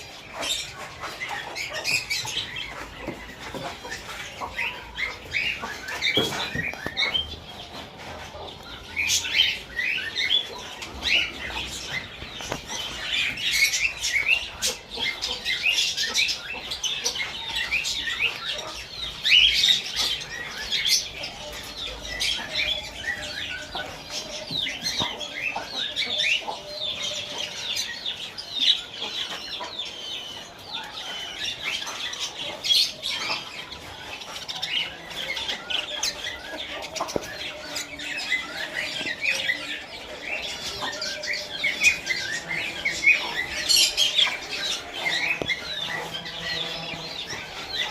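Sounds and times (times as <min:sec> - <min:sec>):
flock of small birds chirping: 0:00.0 - 0:47.9.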